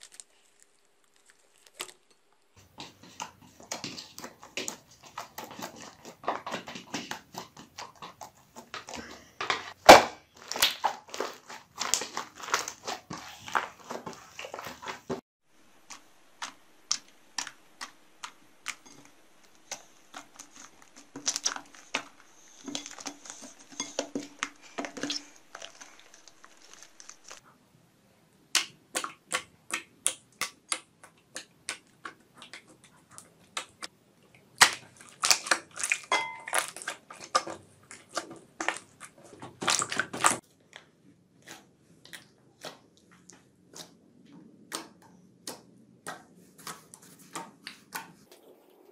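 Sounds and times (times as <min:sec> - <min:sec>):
slime squelching and popping: 0:00.0 - 0:15.2, 0:15.8 - 0:27.4, 0:28.5 - 0:48.6.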